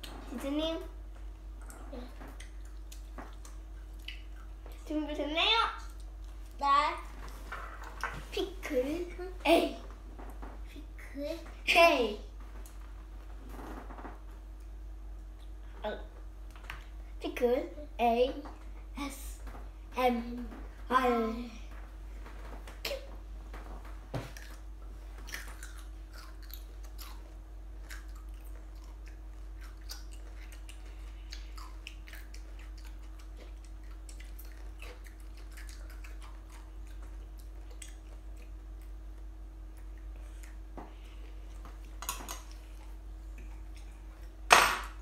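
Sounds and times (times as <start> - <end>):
children chewing and eating: 0.0 - 45.0.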